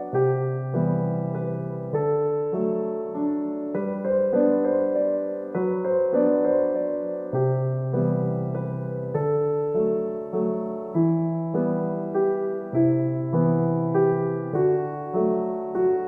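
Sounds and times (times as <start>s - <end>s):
gentle solo piano piece: 0.0s - 16.0s.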